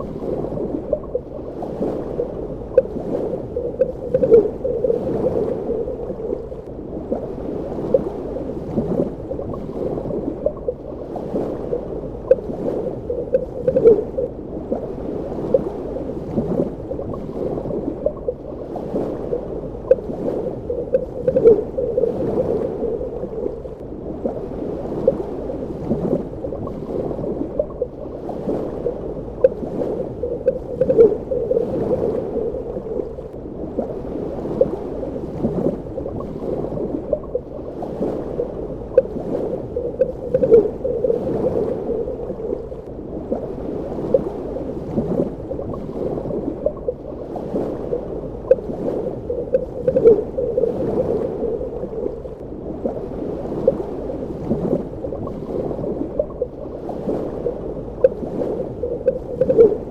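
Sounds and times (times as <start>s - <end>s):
muffled underwater gurgling: 0.0s - 59.9s.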